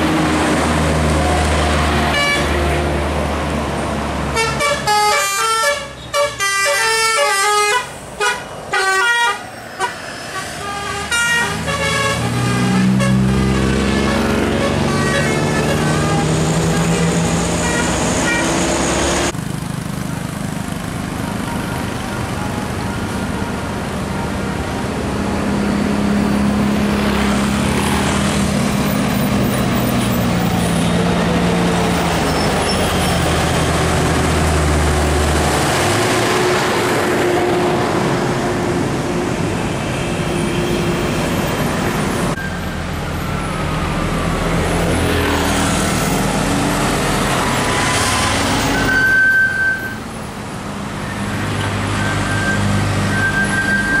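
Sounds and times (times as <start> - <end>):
buses passing: 0.0 - 54.0
diesel engines running: 0.0 - 54.0.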